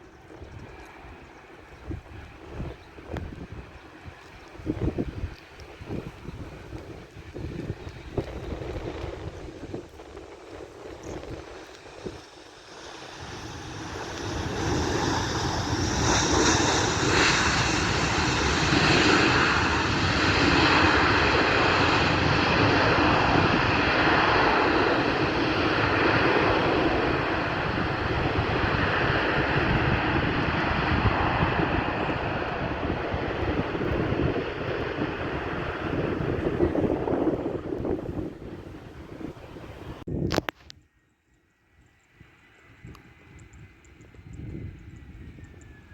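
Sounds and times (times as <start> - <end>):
jet engines passing close: 0.0 - 40.6, 41.5 - 45.9.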